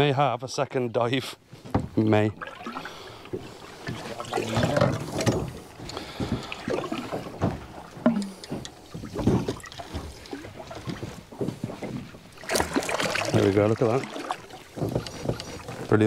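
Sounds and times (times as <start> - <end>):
water slapping boat side: 1.4 - 16.0.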